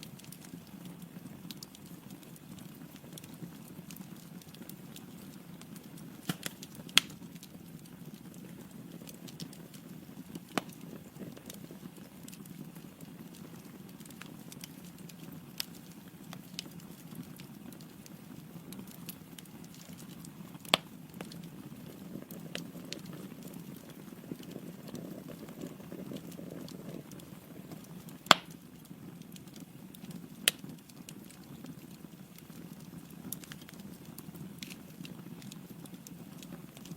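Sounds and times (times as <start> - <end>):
flames rustling: 0.0 - 36.9
logs crackling and popping: 0.0 - 36.9.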